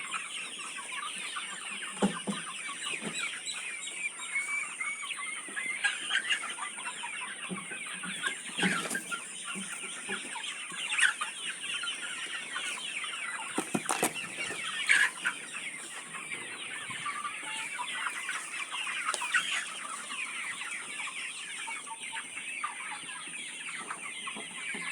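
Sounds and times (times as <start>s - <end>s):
flock of chickens clucking: 0.0s - 24.9s.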